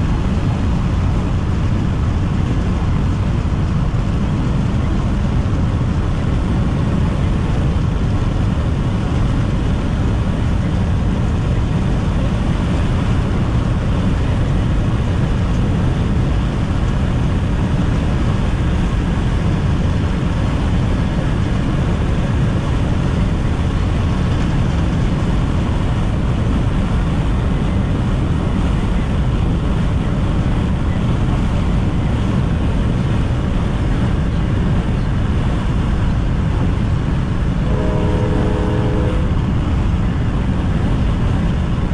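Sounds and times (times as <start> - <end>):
road and tyre noise: 0.0 - 41.9
wind noise: 0.0 - 41.9.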